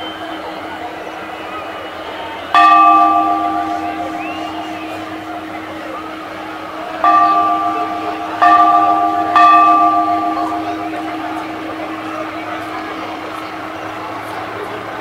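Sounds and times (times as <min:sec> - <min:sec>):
bell ringing: 0:02.6 - 0:14.7.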